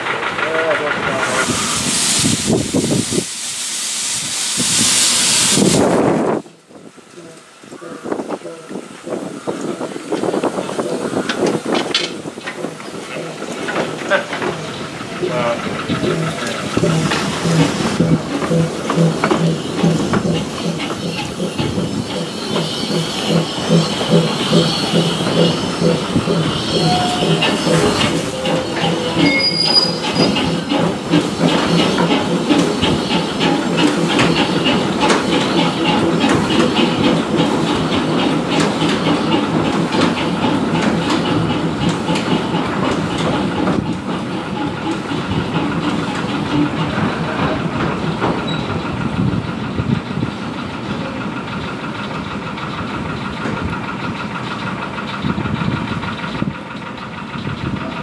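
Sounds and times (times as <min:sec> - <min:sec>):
steam hissing: 0:00.0 - 0:52.9
steam locomotive moving slowly: 0:00.0 - 0:58.0
rhythmic clicking and clanking: 0:08.2 - 0:58.0.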